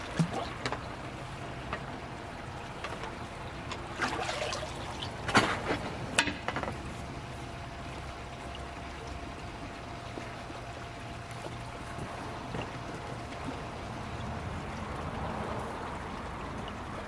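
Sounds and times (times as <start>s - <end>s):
pond water splashing: 0.0s - 17.0s.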